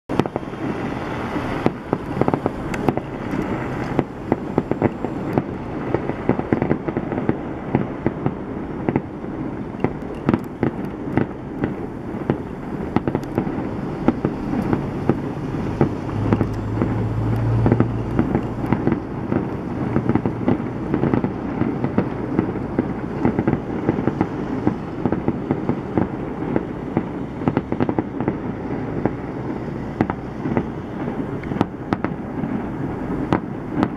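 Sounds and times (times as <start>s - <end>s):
low rumble: 0.1s - 33.8s
fireworks bursting and crackling: 0.1s - 33.9s.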